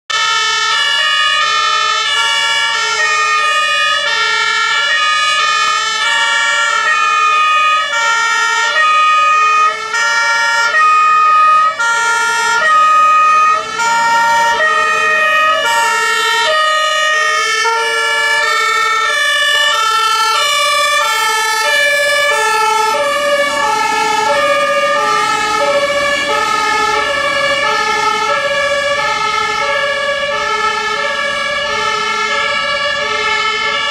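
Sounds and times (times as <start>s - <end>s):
truck engine and tyre noise: 0.1s - 33.9s
two-tone fire engine sirens: 0.1s - 33.9s.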